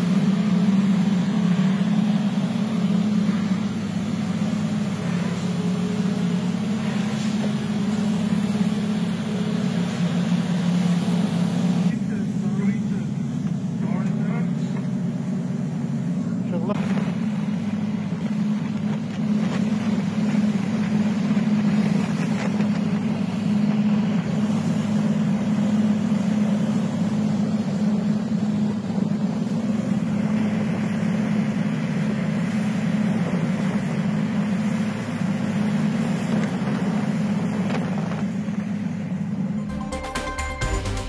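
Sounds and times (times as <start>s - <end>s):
boat engines droning: 0.0s - 41.0s
wind and water rushing: 0.0s - 41.0s.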